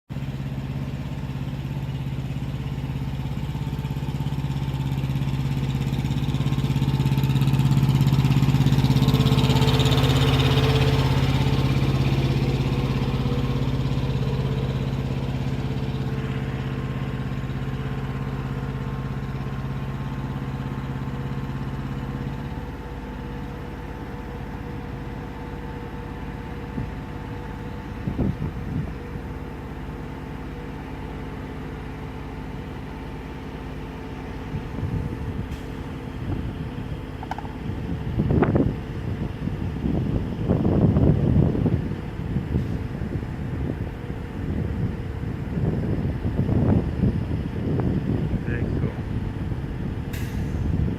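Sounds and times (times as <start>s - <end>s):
truck engine humming: 0.1s - 50.9s.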